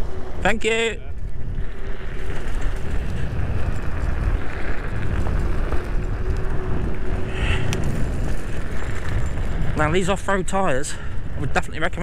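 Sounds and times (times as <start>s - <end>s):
wind buffeting microphone: 0.0s - 12.0s
tyres on gravel: 1.1s - 11.7s.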